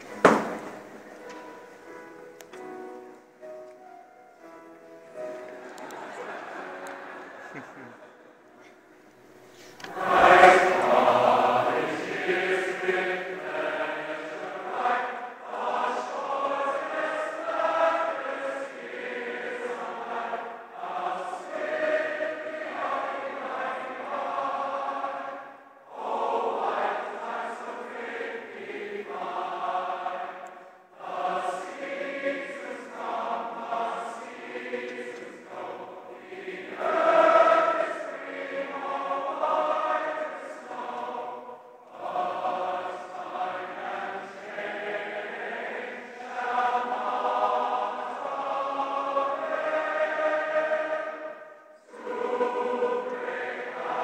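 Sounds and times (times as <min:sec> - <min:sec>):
choir singing a slow hymn: 0:00.0 - 0:54.0.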